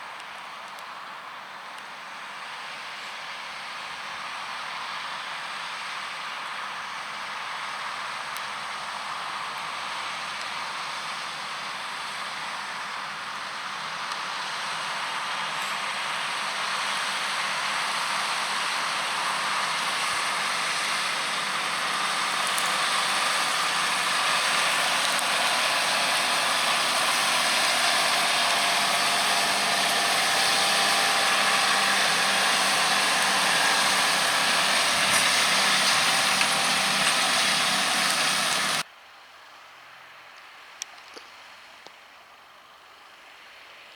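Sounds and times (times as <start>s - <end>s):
tractor engine drone: 2.1s - 38.9s.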